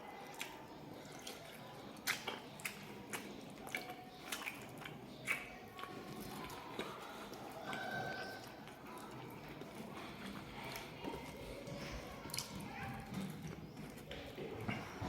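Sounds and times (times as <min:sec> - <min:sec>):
person chewing and smacking: 0:00.2 - 0:15.0.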